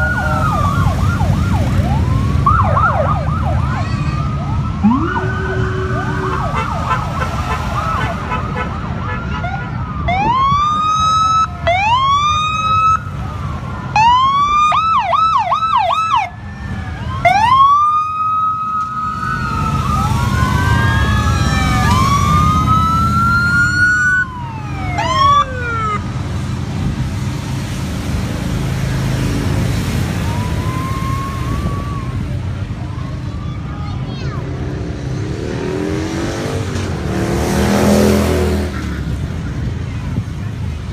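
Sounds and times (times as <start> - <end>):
police sirens wailing: 0.0 - 26.8, 27.4 - 40.9
motorcycle engines rumbling: 0.0 - 40.9.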